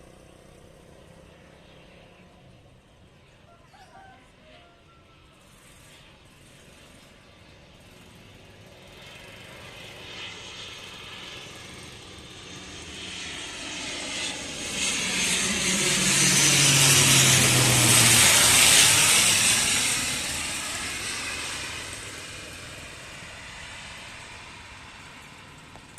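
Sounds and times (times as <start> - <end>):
low propeller hum: 0.0 - 25.9
turboprop aircraft approaching: 0.0 - 25.9.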